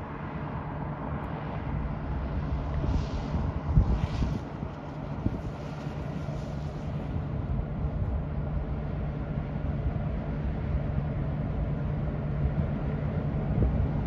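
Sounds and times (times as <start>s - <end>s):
diesel locomotive rumble: 0.0s - 14.0s.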